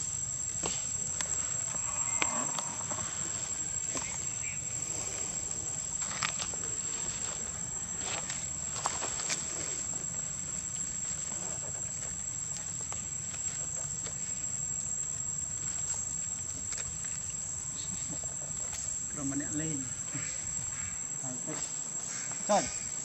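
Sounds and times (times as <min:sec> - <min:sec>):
high-pitched insect drone: 0:00.0 - 0:23.0
scratches in dirt and leaves: 0:00.2 - 0:23.0.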